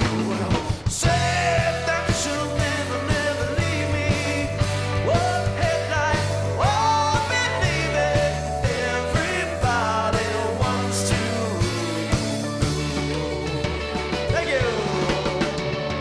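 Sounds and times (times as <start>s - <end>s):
bass: 0.0s - 16.0s
drums keeping a steady beat: 0.0s - 16.0s
electric guitar: 0.0s - 16.0s
keyboard: 0.0s - 16.0s.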